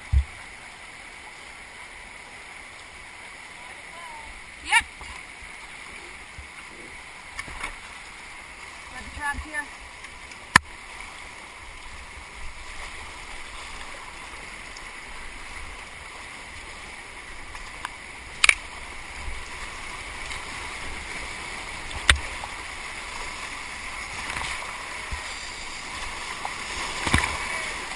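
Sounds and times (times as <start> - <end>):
water rushing through rapids: 0.0 - 27.9.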